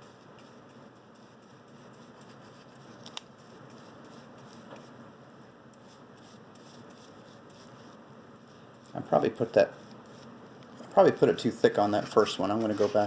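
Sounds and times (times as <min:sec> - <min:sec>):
paintbrush dabbing and brushing: 0:00.0 - 0:05.0, 0:05.8 - 0:13.0.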